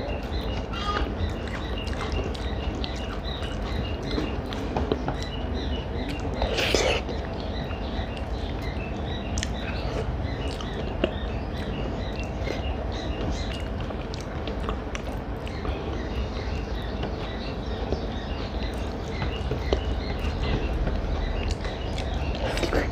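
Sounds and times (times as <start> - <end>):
chewing and mouth clicks: 0.0 - 5.4, 6.0 - 17.2, 17.8 - 22.9
low steady hum: 0.0 - 22.9
small birds chirping: 0.0 - 22.9.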